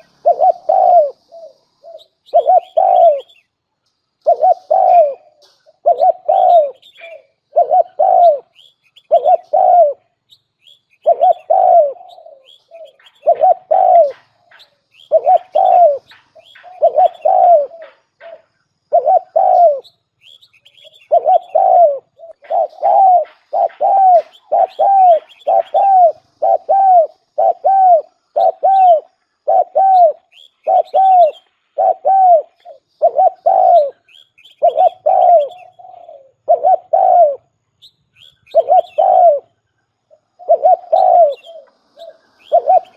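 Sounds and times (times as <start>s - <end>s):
dove cooing: 0.0s - 3.5s, 4.2s - 10.2s, 11.0s - 37.6s, 38.2s - 42.9s
faint high chirps of small birds: 0.0s - 42.9s.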